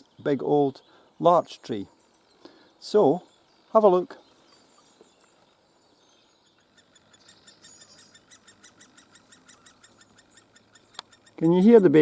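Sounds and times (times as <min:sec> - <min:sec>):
woodpecker nestling begging calls: 0:00.0 - 0:12.0.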